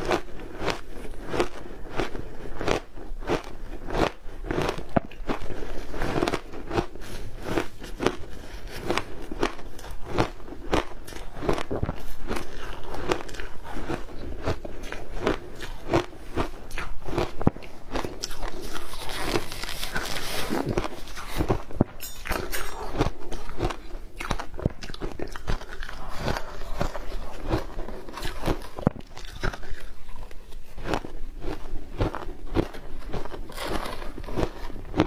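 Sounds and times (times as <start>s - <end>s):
ice crunching being chewed: 0.0s - 35.0s.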